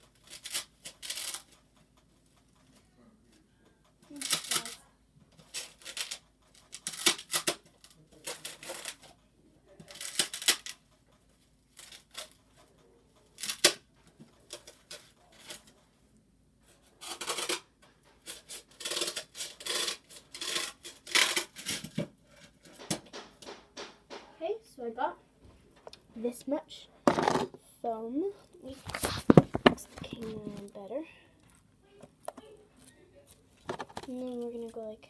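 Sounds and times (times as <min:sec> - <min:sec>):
rustling and scraping of objects: 0:00.0 - 0:35.0.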